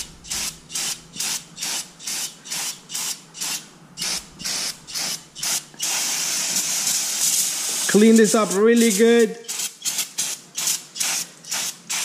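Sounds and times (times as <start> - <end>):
aerosol spray hissing: 0.0 - 12.0.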